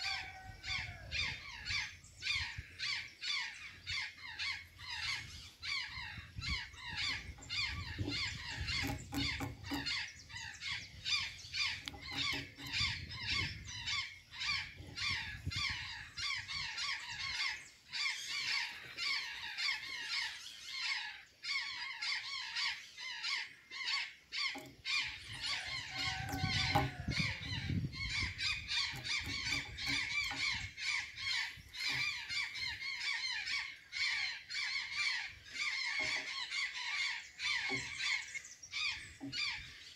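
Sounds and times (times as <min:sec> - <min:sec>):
birds chirping squeakily: 0:00.0 - 0:39.9.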